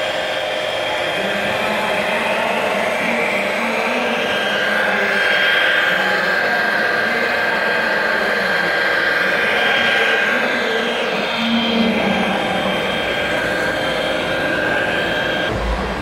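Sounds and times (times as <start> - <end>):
hydraulic pump whining: 0.0 - 16.0.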